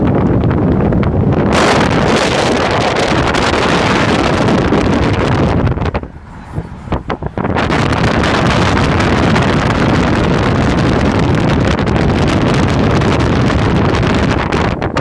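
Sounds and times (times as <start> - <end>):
car road noise: 0.0 - 15.0
wind rushing over microphone: 0.0 - 15.0.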